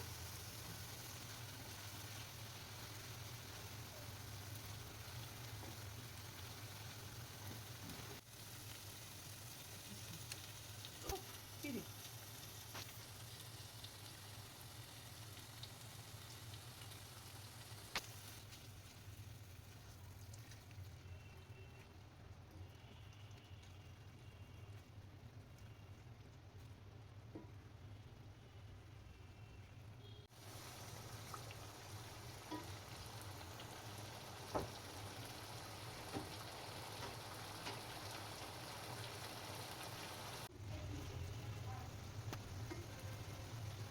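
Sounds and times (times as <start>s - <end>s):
food sizzling in oil: 0.0s - 21.8s, 30.2s - 43.9s.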